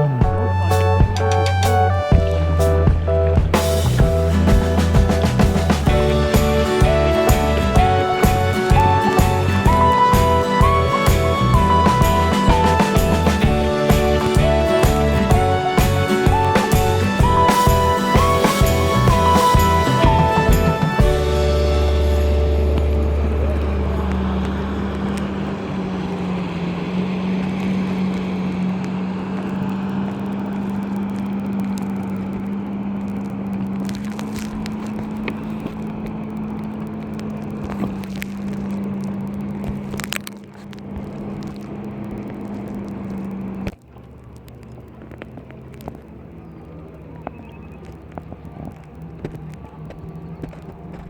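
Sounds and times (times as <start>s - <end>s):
motor running: 2.2s - 43.8s.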